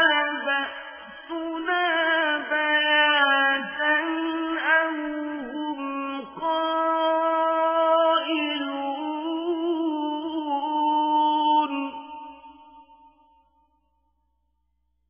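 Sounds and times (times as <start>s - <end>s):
person chanting recitation: 0.0s - 12.9s.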